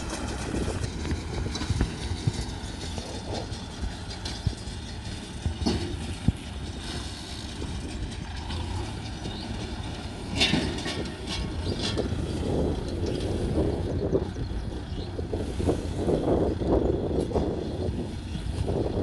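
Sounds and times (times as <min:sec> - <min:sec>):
baler mechanical clatter: 0:00.0 - 0:19.0
diesel tractor engine: 0:00.0 - 0:19.0.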